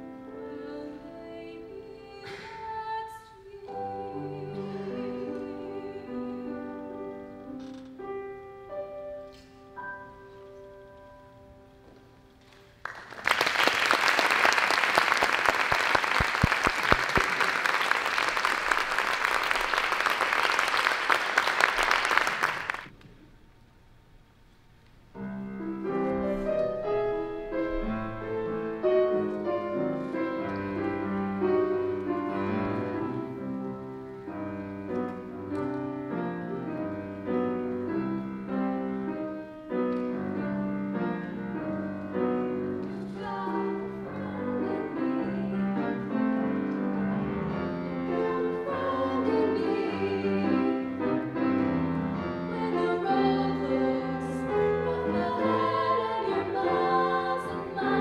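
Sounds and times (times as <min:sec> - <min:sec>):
grand piano playing: 0:00.0 - 0:22.9, 0:25.1 - 0:58.0.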